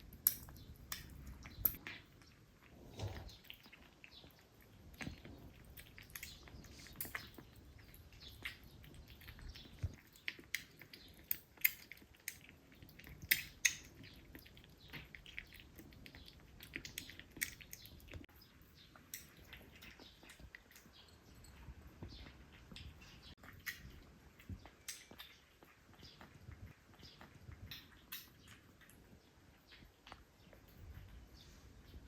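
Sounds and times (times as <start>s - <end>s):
kittens playing with clicks and taps: 0.0s - 32.0s.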